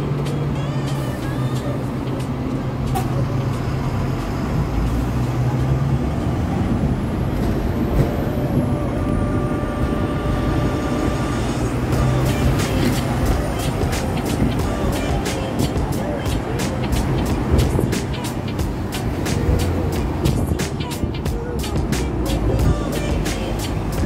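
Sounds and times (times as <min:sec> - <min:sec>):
tram rumble and rattle: 0:00.0 - 0:24.0.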